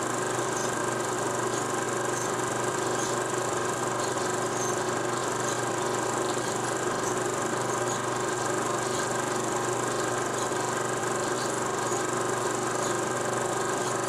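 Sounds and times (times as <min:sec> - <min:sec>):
film projector whirring: 0:00.0 - 0:14.0.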